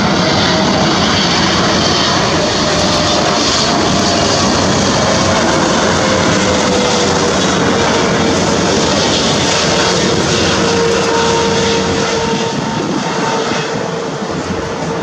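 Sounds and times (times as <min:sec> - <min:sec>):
jet engines roaring with whine: 0:00.0 - 0:15.0.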